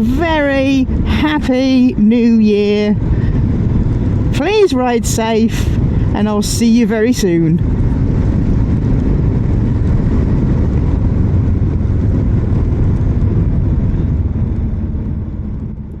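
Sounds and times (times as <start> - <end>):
motorcycle engine riding: 0.0 - 16.0
wind noise: 0.0 - 16.0.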